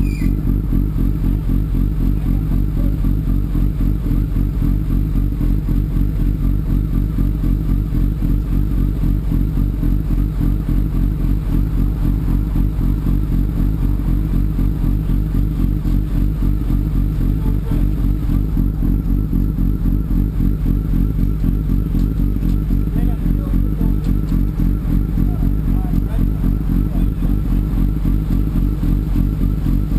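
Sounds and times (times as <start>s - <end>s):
motorcycle engine cruising: 0.0s - 29.9s.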